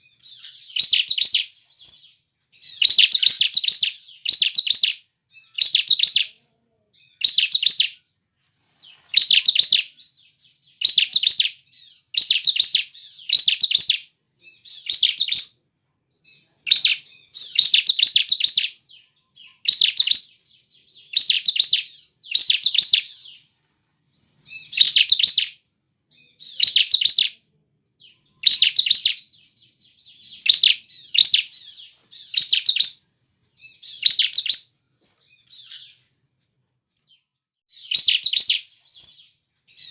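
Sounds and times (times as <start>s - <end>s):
bird chatter: 0.0s - 15.6s, 16.2s - 23.6s, 24.2s - 39.9s
bird singing trilled phrases: 0.0s - 23.5s, 24.2s - 39.9s.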